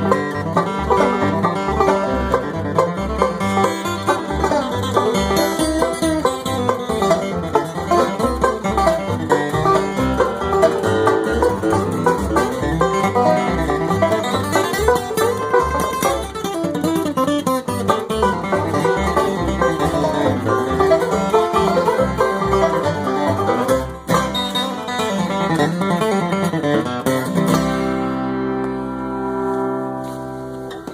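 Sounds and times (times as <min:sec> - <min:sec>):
low bass notes: 0:00.0 - 0:25.8
banjo picking: 0:00.0 - 0:30.9
bluegrass band playing: 0:00.0 - 0:30.9.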